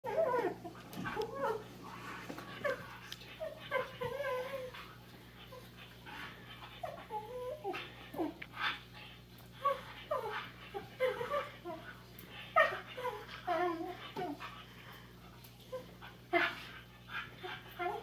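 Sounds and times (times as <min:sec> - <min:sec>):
puppy whining and whimpering: 0:00.0 - 0:14.6, 0:15.6 - 0:18.0.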